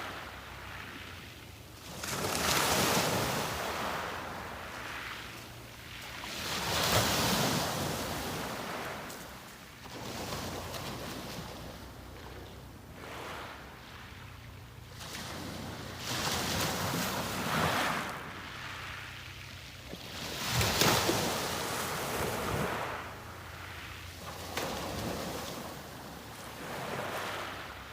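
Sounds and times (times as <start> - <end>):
sea waves breaking on beach: 0.0 - 27.9.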